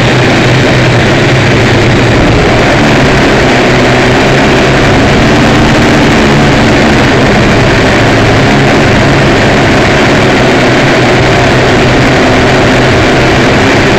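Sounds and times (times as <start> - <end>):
electric motors and propellers buzzing: 0.0 - 13.9
rush of air and wind: 0.0 - 13.9.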